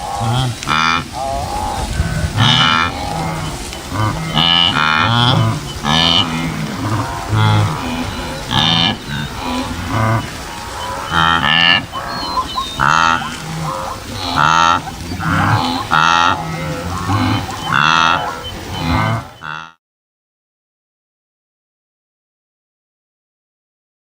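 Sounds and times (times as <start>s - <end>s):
large animals honking calls: 0.0s - 19.8s.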